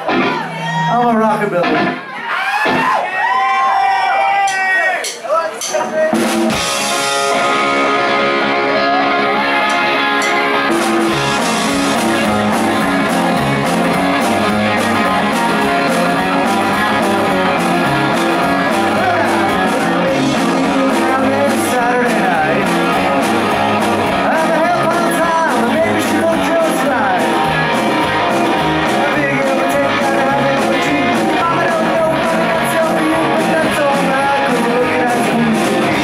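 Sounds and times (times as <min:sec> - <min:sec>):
live rock band playing: 0:00.0 - 0:03.0, 0:04.5 - 0:36.0
drum and cymbal hits: 0:04.4 - 0:07.8, 0:09.7 - 0:36.0.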